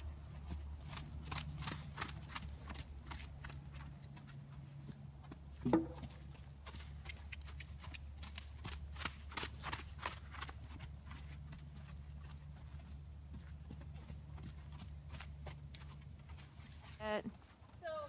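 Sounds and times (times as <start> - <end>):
horse hooves thudding on dirt: 0.0 - 18.0.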